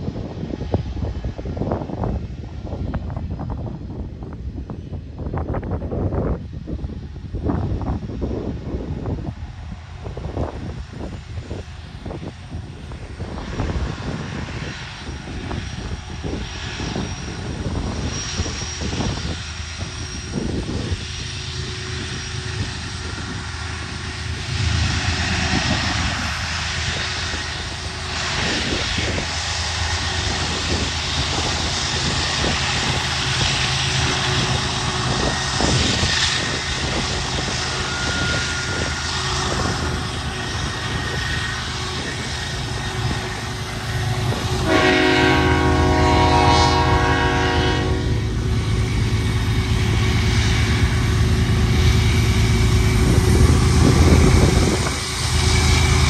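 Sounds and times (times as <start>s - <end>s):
diesel locomotive drone: 0.0s - 56.0s
rushing noise: 9.9s - 56.0s.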